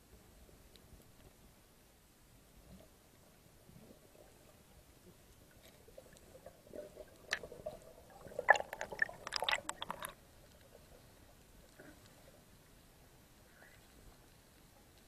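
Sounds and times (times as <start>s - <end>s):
underwater clicks and crackles: 0.1s - 1.6s, 2.5s - 15.0s.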